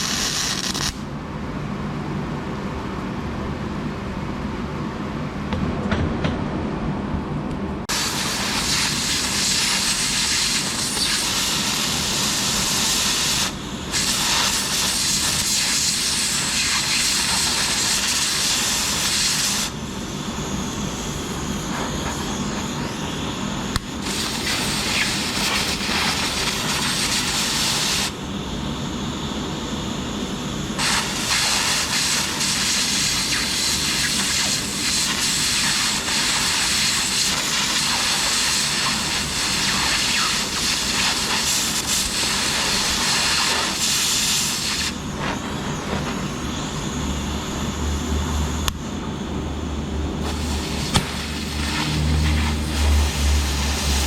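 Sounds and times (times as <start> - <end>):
welding arc crackling hiss: 0.0 - 1.1, 7.9 - 28.2, 30.6 - 48.9, 50.2 - 54.0.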